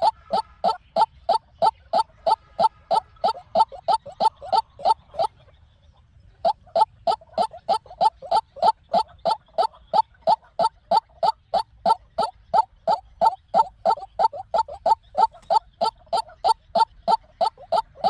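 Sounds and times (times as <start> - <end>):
waterhen calling repeated notes: 0.0 - 5.4, 6.3 - 18.0.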